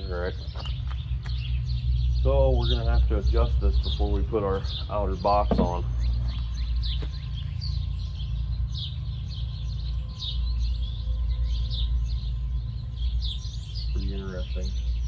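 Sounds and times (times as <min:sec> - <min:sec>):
low hum: 0:00.0 - 0:15.0
small birds chirping: 0:00.0 - 0:15.0.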